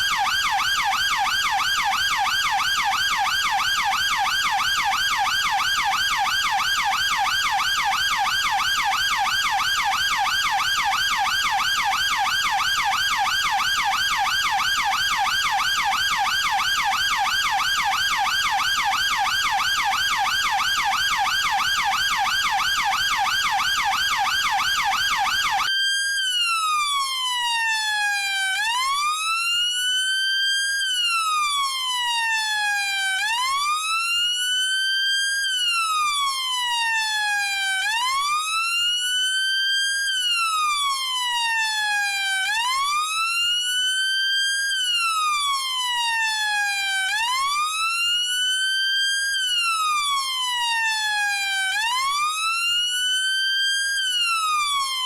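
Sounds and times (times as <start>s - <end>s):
police siren yelping: 0.0s - 25.7s, 26.5s - 29.3s, 31.1s - 34.1s, 35.7s - 38.8s, 40.4s - 48.4s, 49.0s - 55.0s
police siren wailing: 0.0s - 55.0s.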